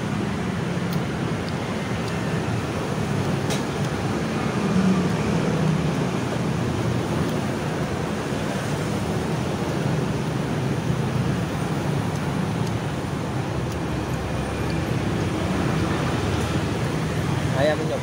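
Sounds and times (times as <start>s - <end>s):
low rumble of road traffic: 0.0s - 18.0s.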